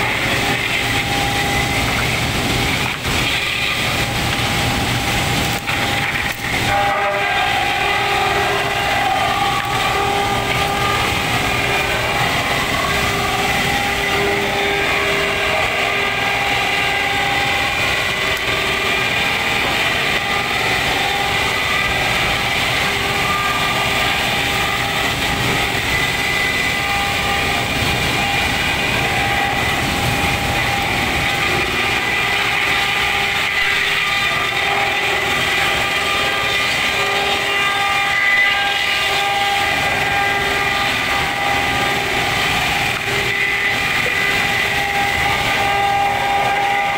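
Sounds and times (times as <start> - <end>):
sawdust machine running: 0.0 - 46.9.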